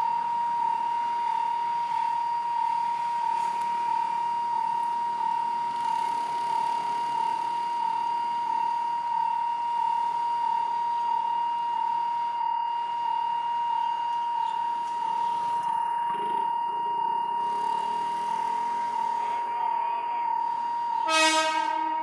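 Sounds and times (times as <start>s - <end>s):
level crossing warning signal: 0.0s - 22.0s.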